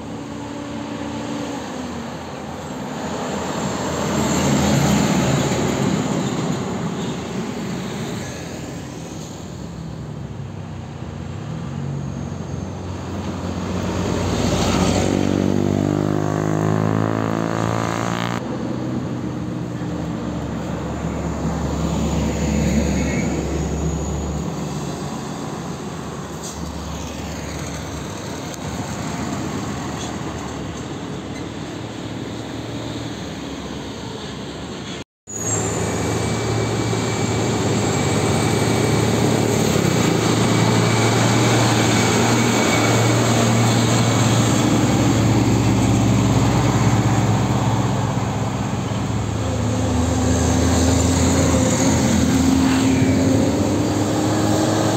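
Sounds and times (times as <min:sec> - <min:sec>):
heavy trucks passing uphill: 0:00.0 - 0:54.9.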